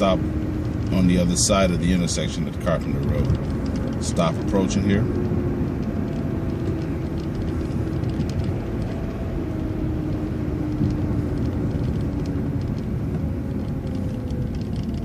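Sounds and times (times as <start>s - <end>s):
bus engine rumble and whine: 0.0s - 15.0s.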